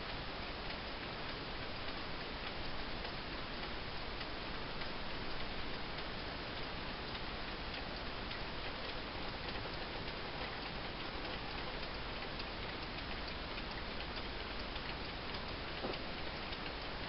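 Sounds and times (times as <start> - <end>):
steady hiss: 0.0 - 17.0
wall clock ticking: 1.6 - 17.0.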